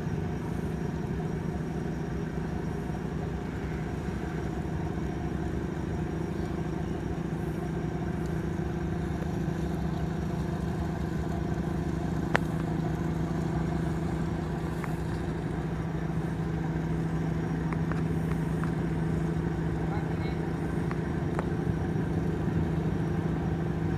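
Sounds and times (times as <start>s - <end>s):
diesel engines droning: 0.0s - 23.9s.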